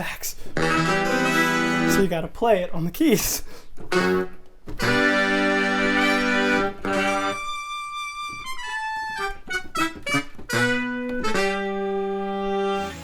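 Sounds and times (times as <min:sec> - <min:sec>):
electronic keyboard chords: 0:00.6 - 0:02.0, 0:03.9 - 0:13.0.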